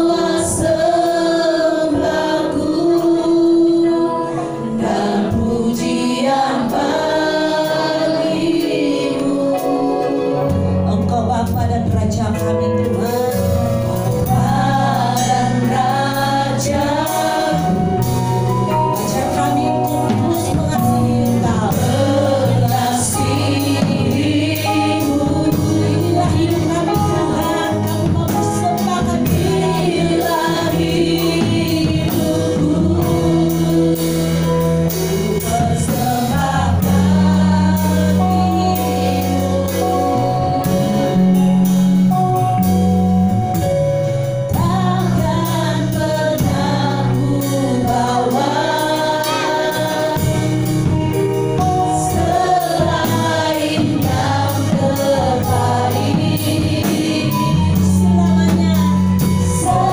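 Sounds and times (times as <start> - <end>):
held bass notes and chords: 0.0 - 59.9
singers on microphones: 0.0 - 59.9.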